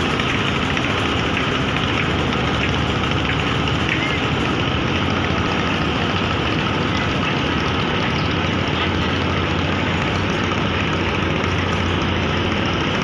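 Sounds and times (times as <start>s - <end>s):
rushing water wash: 0.0s - 13.0s
ship diesel engines humming: 0.0s - 13.0s.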